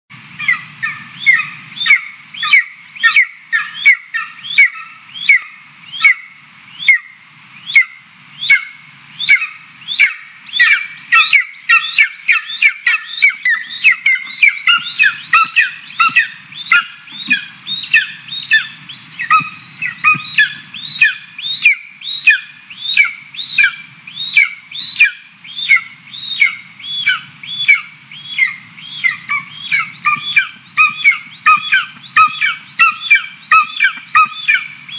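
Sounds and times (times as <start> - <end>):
eaglet begging calls: 0.3 - 34.9.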